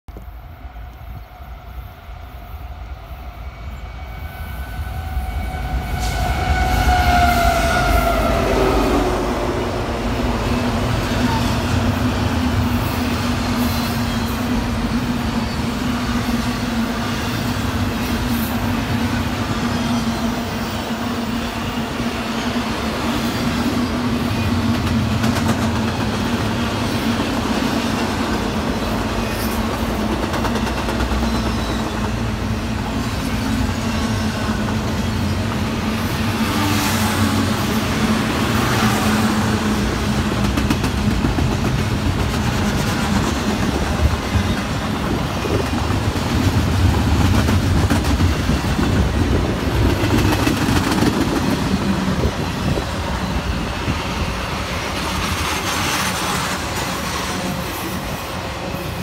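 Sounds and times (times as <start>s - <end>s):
train wheels on rails: 0.1s - 59.0s
locomotives passing: 3.4s - 59.0s.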